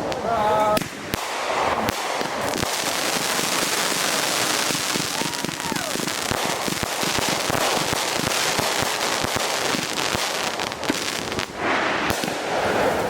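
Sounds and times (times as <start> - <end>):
fireworks crackling and popping: 0.0 - 13.0
rushing hiss: 0.0 - 13.0
firework bang: 0.2 - 13.0.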